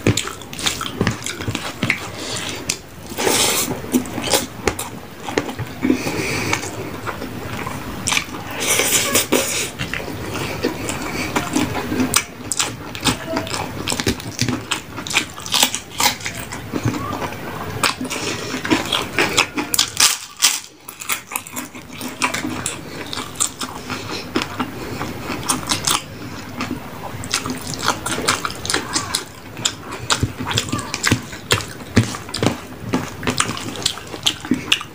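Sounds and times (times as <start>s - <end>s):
chewing and lip smacks: 0.0s - 8.7s, 9.8s - 34.9s.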